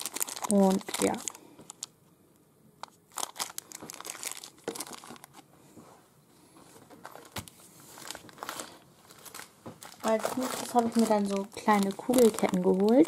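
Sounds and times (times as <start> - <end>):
plastic bags crinkling: 0.0 - 2.0, 2.8 - 5.5, 6.9 - 13.0.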